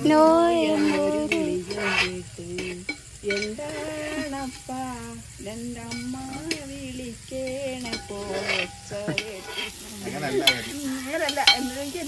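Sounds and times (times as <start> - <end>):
food frying sizzle: 0.0 - 12.0
person singing unaccompanied: 0.0 - 12.0.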